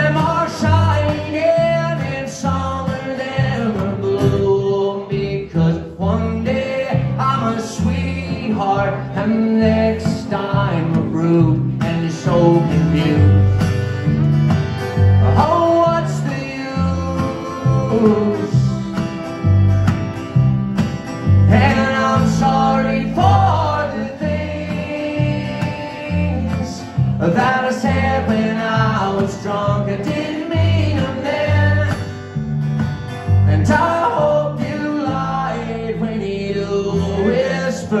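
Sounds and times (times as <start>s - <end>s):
plucked upright bass: 0.0s - 38.0s
strummed acoustic guitar: 0.0s - 38.0s.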